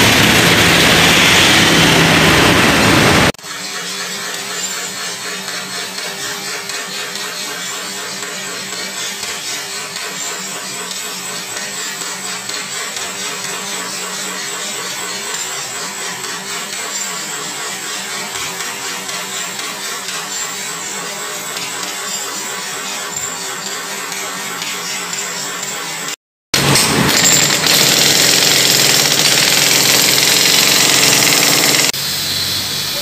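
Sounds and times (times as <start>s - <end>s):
jackhammers breaking concrete: 0.0s - 24.0s, 26.6s - 32.0s.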